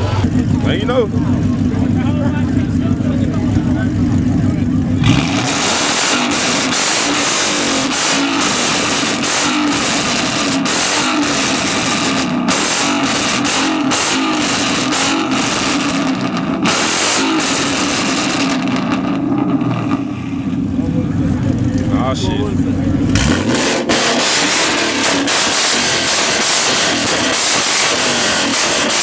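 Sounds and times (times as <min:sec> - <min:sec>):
car engine revving: 0:00.0 - 0:29.0
exhaust crackling: 0:00.0 - 0:29.0.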